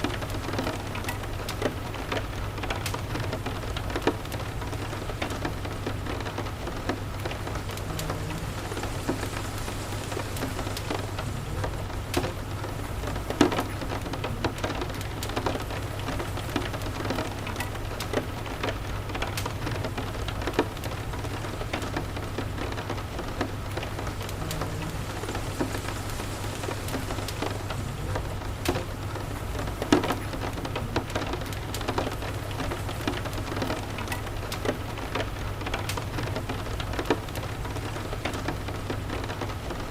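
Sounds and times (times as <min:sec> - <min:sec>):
steady rain falling: 0:00.0 - 0:39.9
wood fire crackling and popping: 0:00.0 - 0:39.9.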